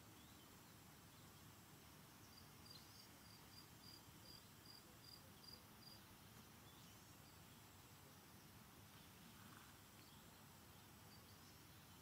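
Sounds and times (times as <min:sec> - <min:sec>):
faint bird chirps: 0:00.0 - 0:12.0
steady low hiss: 0:00.0 - 0:12.0
insect chirping: 0:00.2 - 0:08.6, 0:09.5 - 0:12.0.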